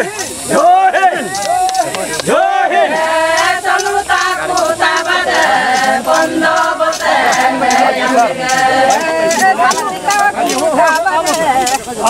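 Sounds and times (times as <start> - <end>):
group of voices chanting: 0.0 - 11.8.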